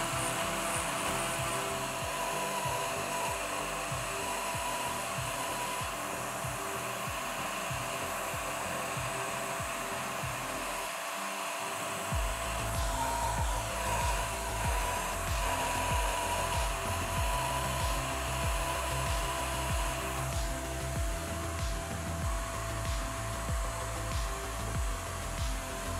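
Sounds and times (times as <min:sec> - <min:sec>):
background music with beat: 0:00.0 - 0:25.9
router spindle whining: 0:00.0 - 0:25.9.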